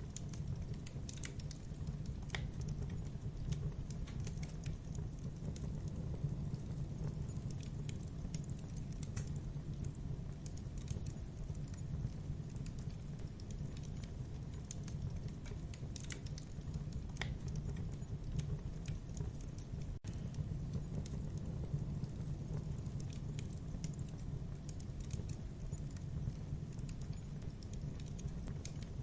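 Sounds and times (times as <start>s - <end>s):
campfire burning: 0.0s - 29.0s.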